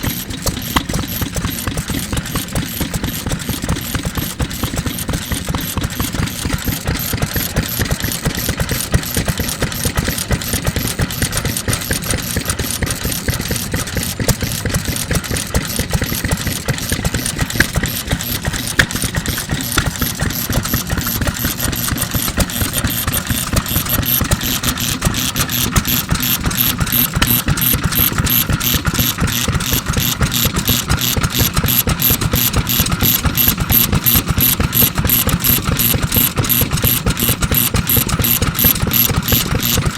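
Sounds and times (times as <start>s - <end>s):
stationary engine clattering: 0.0s - 39.9s.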